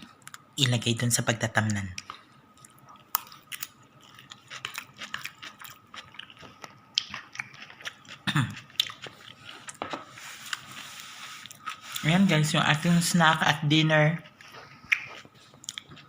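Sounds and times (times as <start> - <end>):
person chewing crunchy leaves: 2.1 - 16.0.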